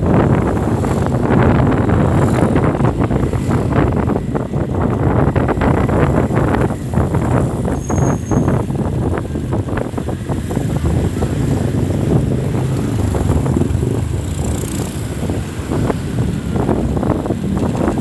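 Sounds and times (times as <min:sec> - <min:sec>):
road traffic rumble: 0:00.0 - 0:18.0
wind buffeting microphone: 0:00.0 - 0:18.0.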